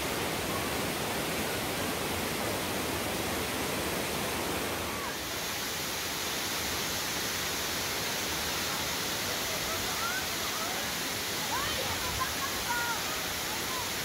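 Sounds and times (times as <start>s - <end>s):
waterfall rushing into rapids: 0.0s - 14.0s.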